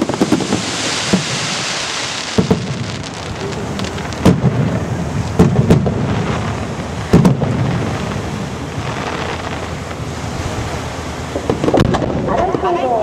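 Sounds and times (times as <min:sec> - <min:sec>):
fireworks booming: 0:00.0 - 0:13.0
steady hiss: 0:00.0 - 0:13.0.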